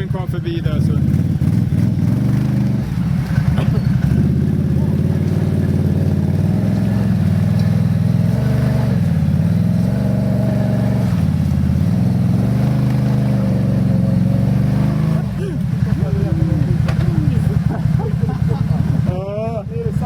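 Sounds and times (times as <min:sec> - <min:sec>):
quad bike engine revving: 0:00.0 - 0:20.0.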